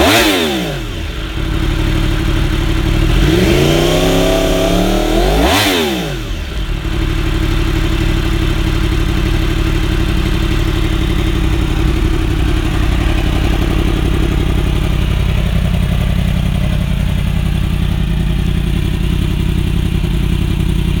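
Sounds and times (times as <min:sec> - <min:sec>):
motorcycle engine revving and idling: 0:00.0 - 0:21.0.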